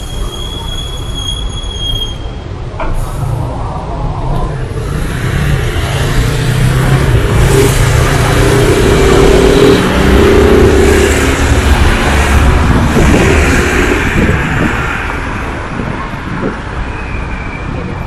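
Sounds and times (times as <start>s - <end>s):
bus and car engines rumbling: 0.0s - 18.0s.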